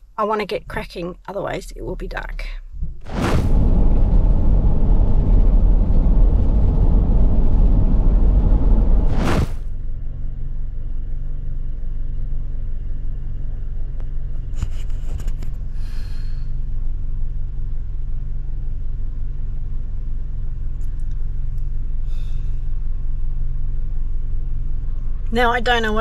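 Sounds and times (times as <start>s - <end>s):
engine rumble from inside cabin: 2.6s - 26.0s.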